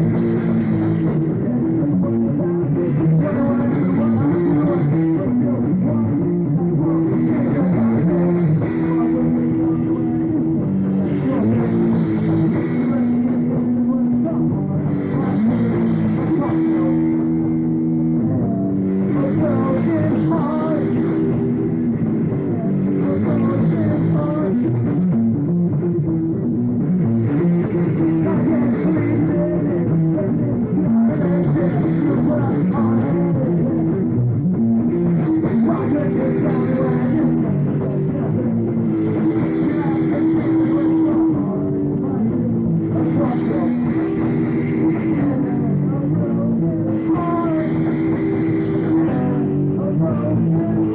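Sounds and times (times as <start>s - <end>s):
punk rock band playing: 0.0s - 50.9s.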